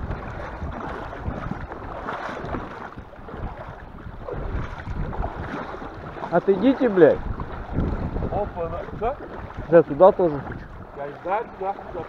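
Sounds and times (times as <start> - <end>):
water lapping around boat: 0.0 - 12.0
wind buffeting microphone: 0.0 - 12.0.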